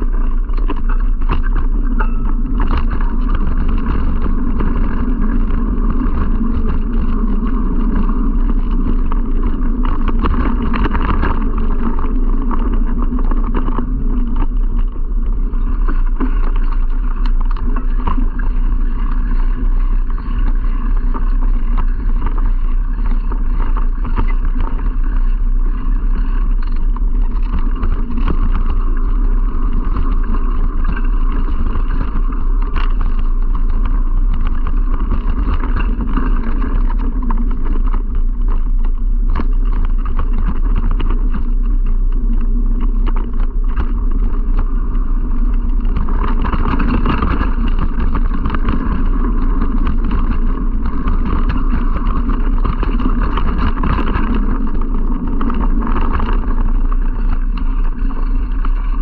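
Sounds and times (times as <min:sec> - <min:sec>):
low rumble: 0:00.0 - 0:59.0
rattling on dirt trail: 0:00.0 - 0:59.0
wind on microphone: 0:00.0 - 0:59.0.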